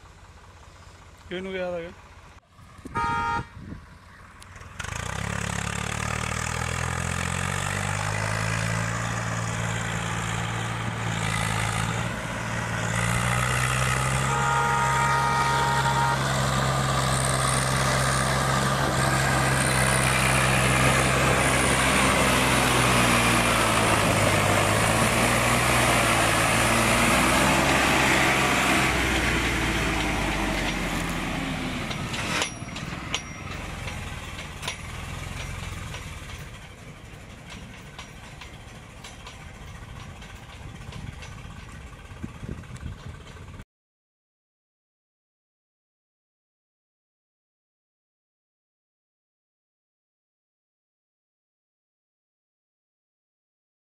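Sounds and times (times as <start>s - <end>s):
tractor diesel engine under load: 0.0s - 43.6s.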